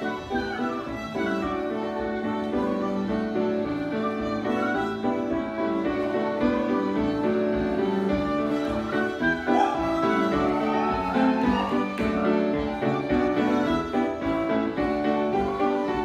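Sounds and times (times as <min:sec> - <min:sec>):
live band playing a reel: 0:00.0 - 0:16.0.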